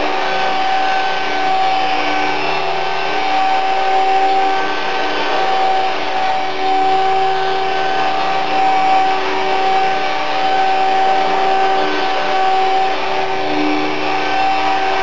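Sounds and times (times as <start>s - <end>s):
electric motor whine: 0.0s - 15.0s
rotor blades buzzing: 0.0s - 15.0s.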